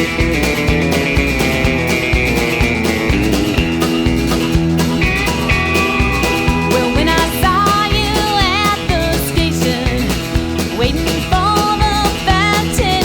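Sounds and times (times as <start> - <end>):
country-rock band playing: 0.0 - 13.0
drums keeping a steady beat: 0.0 - 13.0
sliding lead guitar melody: 0.0 - 13.0.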